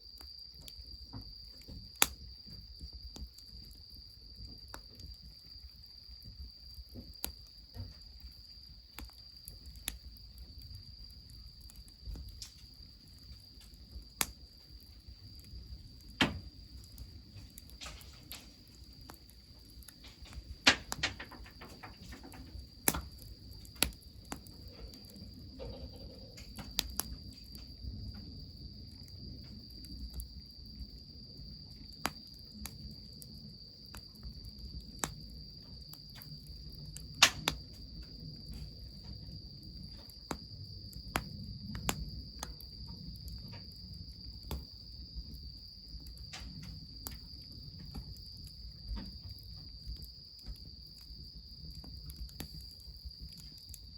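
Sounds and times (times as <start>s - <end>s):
crickets trilling: 0.0s - 53.9s
wood fire crackling and popping: 0.1s - 53.9s.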